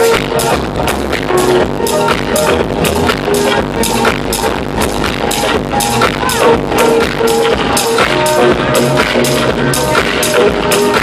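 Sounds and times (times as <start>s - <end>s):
loud electronic music: 0.0s - 11.0s.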